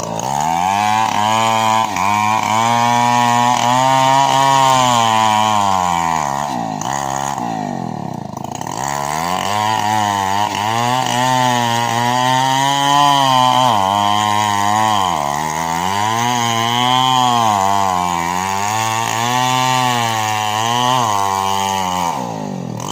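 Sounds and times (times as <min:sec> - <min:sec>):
chainsaw engine revving: 0:00.0 - 0:22.9.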